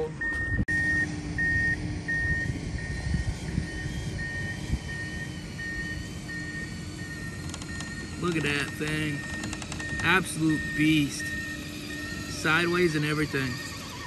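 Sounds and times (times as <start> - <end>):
electric motor whine: 0.0 - 14.0
electronic beeper: 0.0 - 14.0.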